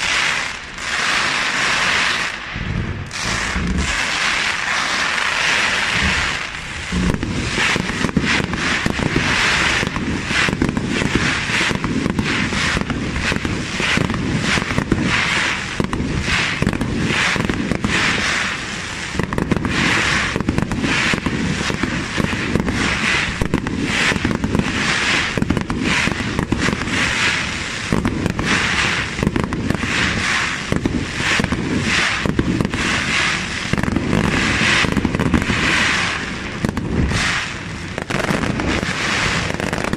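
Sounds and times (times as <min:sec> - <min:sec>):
fireworks launching and bursting: 0:00.0 - 0:39.9
rapid bangs and crackles: 0:00.0 - 0:39.9.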